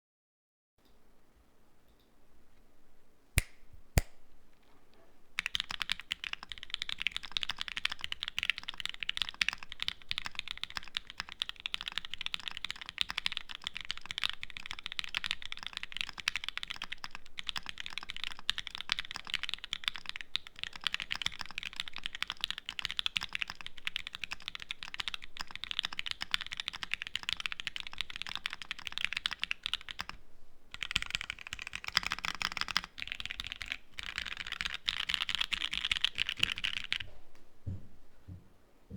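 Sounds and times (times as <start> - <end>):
mechanical keyboard typing: 5.4 - 37.0.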